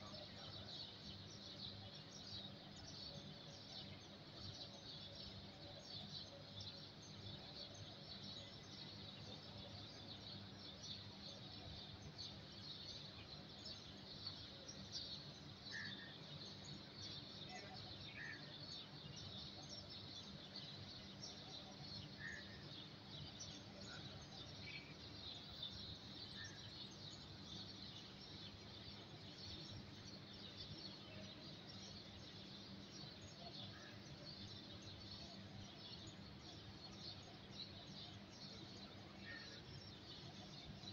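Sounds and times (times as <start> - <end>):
many small birds chirping: 0.0 - 40.9.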